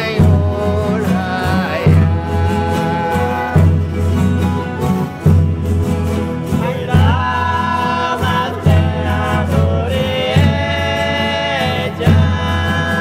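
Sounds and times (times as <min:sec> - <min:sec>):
voices singing long notes: 0:00.0 - 0:05.3, 0:06.4 - 0:13.0
steady bass accompaniment: 0:00.0 - 0:13.0.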